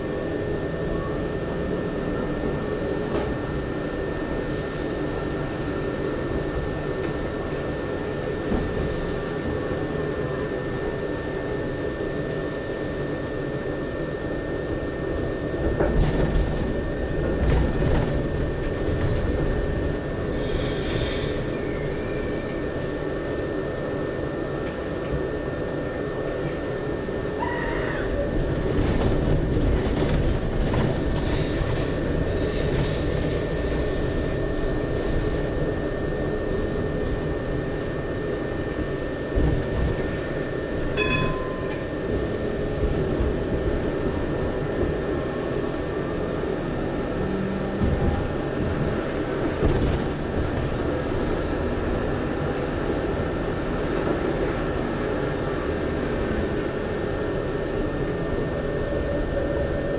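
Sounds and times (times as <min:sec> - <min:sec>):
tram wheels rumbling on rail: 0:00.0 - 0:59.9.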